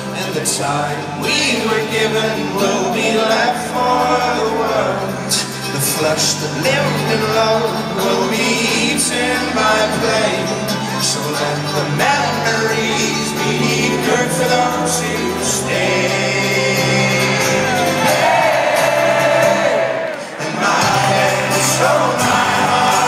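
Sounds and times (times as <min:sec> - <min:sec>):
accordion: 0:00.0 - 0:23.0
live folk-rock band playing: 0:00.0 - 0:23.0
person singing: 0:00.0 - 0:23.0.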